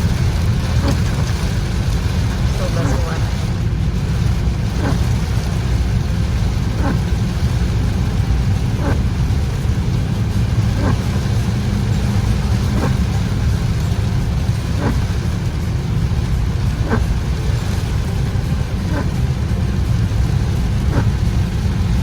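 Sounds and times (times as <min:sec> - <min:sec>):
car road and engine rumble: 0:00.0 - 0:22.0
rain hiss: 0:00.0 - 0:22.0.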